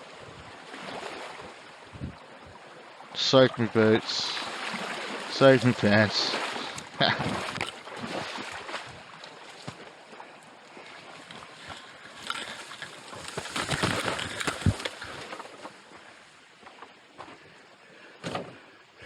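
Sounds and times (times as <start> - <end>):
water sloshing and splashing: 0.0 - 17.4.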